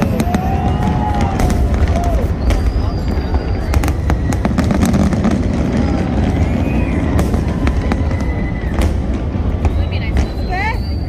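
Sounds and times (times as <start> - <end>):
fireworks booming: 0.0 - 11.0
fireworks cracks and crackles: 0.0 - 11.0.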